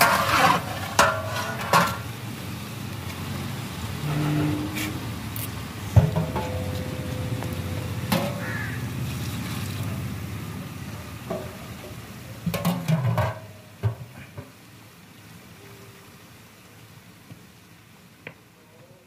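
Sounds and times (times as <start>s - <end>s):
pot cooking over fire rumble: 0.0s - 19.0s.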